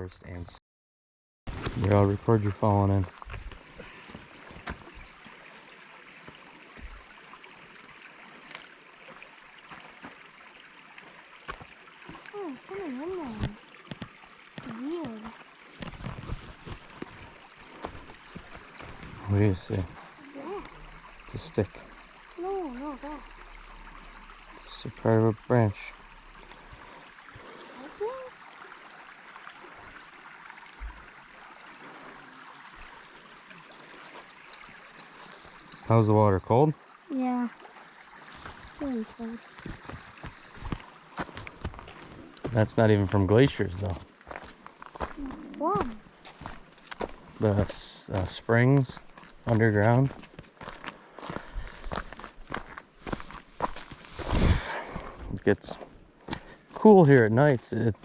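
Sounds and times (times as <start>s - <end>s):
creek flowing: 1.5s - 58.0s.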